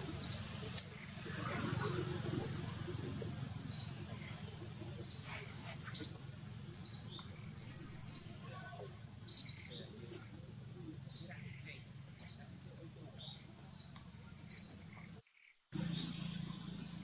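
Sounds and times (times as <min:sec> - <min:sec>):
low steady background rumble: 0:00.0 - 0:15.2.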